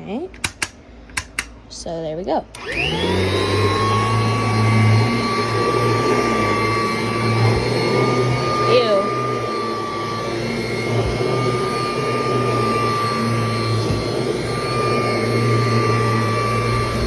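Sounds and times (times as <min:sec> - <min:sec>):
upright vacuum cleaner running: 0:02.5 - 0:17.0.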